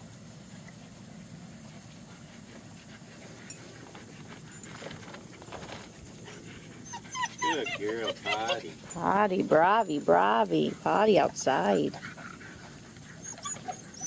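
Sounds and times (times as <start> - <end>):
puppies panting: 0.4 - 14.0.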